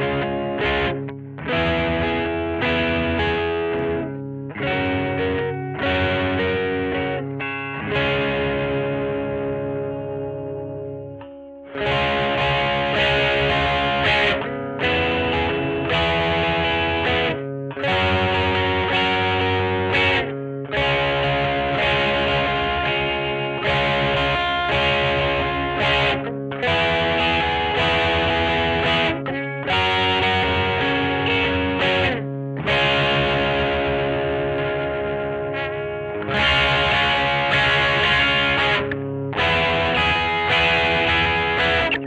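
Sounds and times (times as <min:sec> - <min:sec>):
distorted electric guitar chords: 0:00.0 - 0:42.0.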